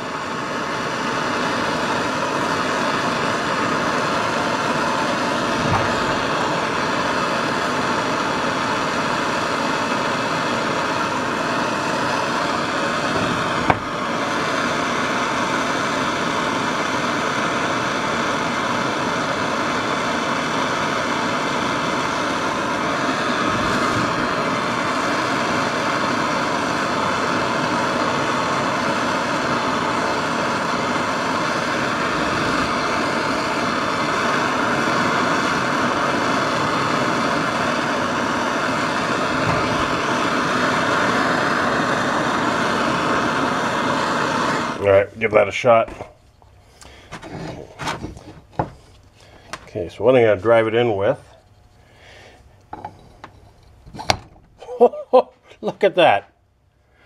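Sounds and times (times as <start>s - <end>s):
propane torch hissing: 0.0s - 57.0s.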